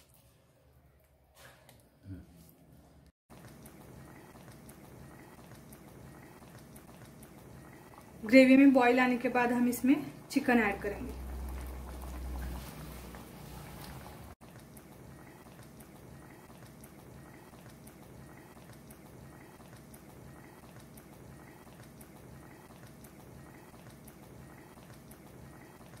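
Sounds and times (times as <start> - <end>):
gravy bubbling at a simmer: 3.3 - 26.0.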